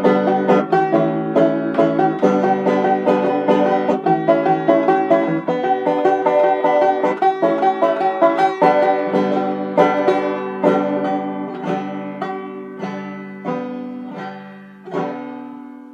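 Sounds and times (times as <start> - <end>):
banjo plucking: 0.0 - 15.9.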